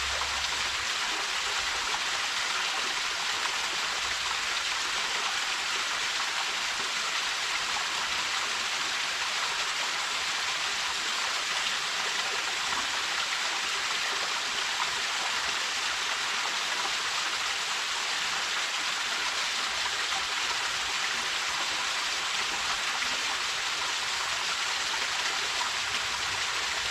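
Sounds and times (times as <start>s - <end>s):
waterfall pouring into stream: 0.0s - 26.9s.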